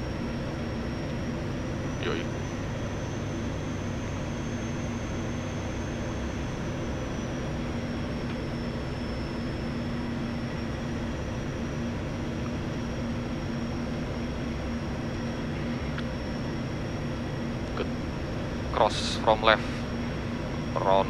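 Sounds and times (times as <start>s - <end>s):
high engine whine: 0.0s - 21.0s
turboprop engine drone: 0.0s - 21.0s.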